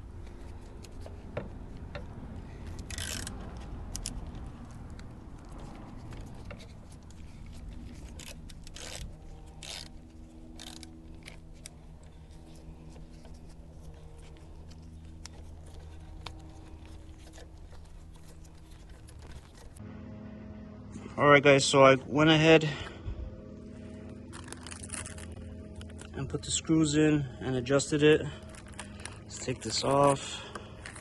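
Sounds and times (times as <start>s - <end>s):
hand tools clicking and scraping: 0.0s - 19.8s, 23.7s - 31.0s
steady low hum: 0.0s - 31.0s.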